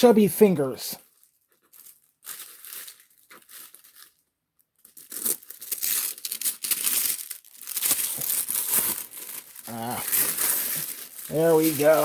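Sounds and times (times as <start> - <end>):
tissue paper tearing and crinkling: 1.0 - 4.2, 4.8 - 12.0.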